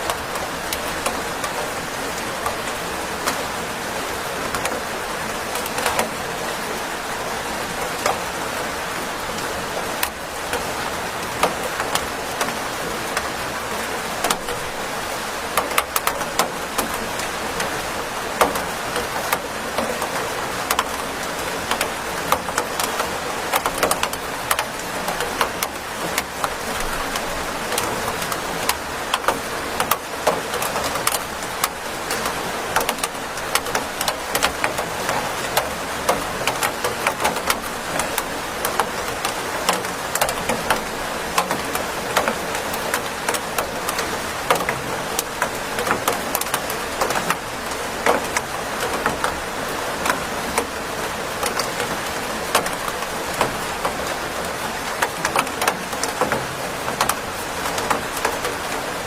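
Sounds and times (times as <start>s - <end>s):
loud raindrops ticking: 0.0s - 59.0s.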